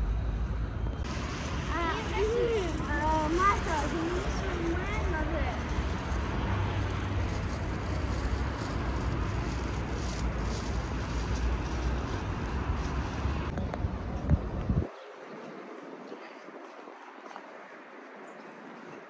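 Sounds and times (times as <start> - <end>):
city road traffic rumble: 0.0 - 19.0.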